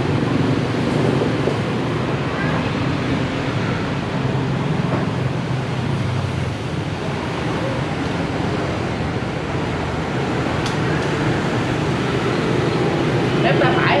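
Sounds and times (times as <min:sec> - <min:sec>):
steady rumbling background noise: 0:00.0 - 0:14.0.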